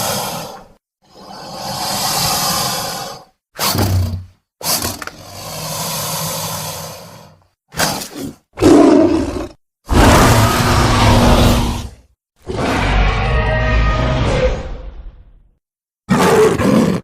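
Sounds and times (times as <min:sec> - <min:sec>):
dinosaur growls and roars: 0:00.0 - 0:15.5, 0:16.1 - 0:17.0.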